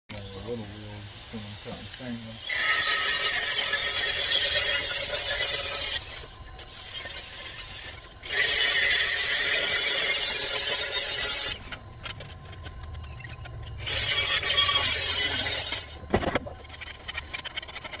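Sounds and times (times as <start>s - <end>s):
grinder cutting steel tube: 0.1s - 12.0s, 12.6s - 18.0s.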